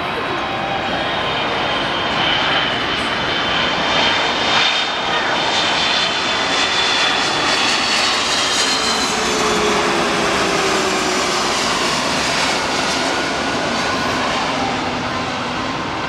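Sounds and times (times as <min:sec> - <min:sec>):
jet airliner passing overhead: 0:00.0 - 0:16.0.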